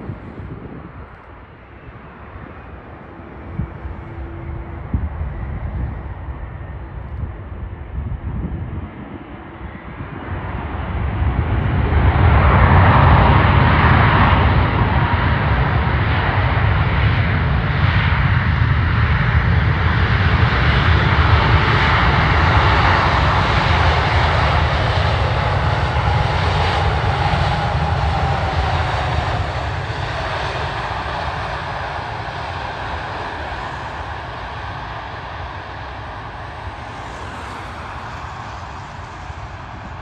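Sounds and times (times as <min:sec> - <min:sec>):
jet engine whine dropping in pitch: 0:00.0 - 0:40.0
jet engines deep rumble: 0:00.0 - 0:40.0.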